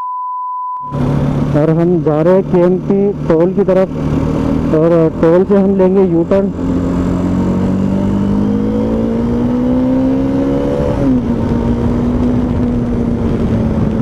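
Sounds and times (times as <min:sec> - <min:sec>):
motorcycle engine accelerating: 0:00.8 - 0:14.0.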